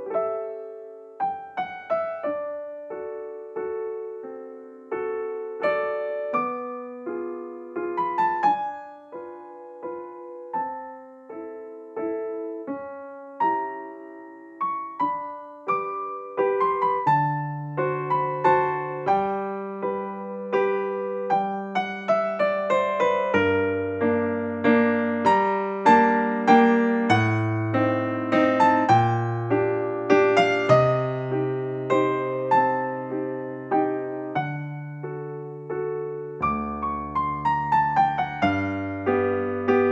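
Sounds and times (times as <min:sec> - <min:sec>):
gentle piano melody: 0:00.0 - 0:39.9
piano bass line: 0:00.0 - 0:39.9.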